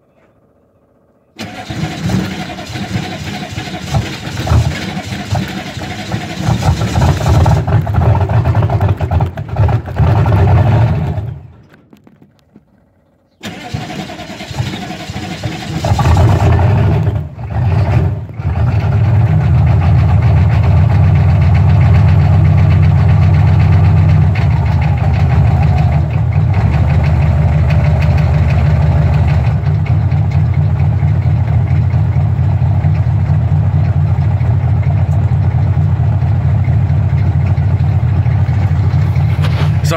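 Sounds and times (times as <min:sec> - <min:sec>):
diesel engine running: 0:01.4 - 0:12.6, 0:13.4 - 0:39.9.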